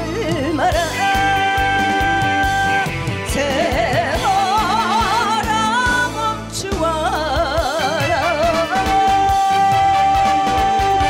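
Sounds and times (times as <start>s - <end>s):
band accompaniment with beats: 0.0s - 11.0s
vibrato lead vocal melody: 0.0s - 11.0s.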